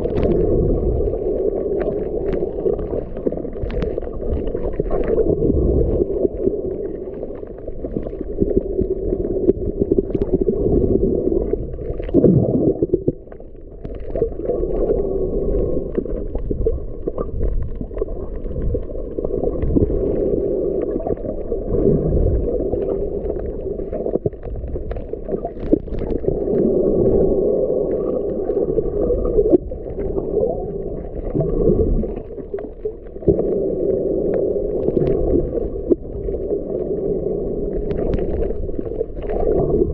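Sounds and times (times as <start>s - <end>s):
faint crackles: 0.0s - 39.9s
muffled underwater sloshing rumble: 0.0s - 39.9s.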